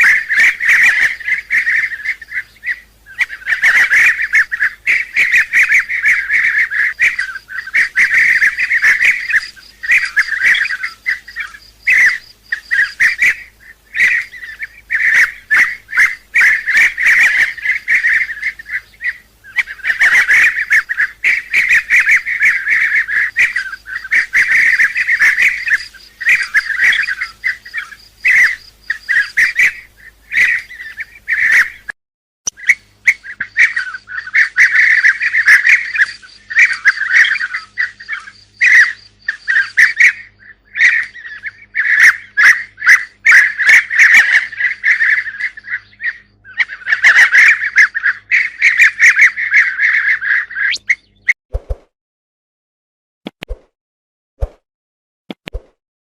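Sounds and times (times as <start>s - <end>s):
birds rolling calls: 0.0s - 31.9s, 32.5s - 51.3s.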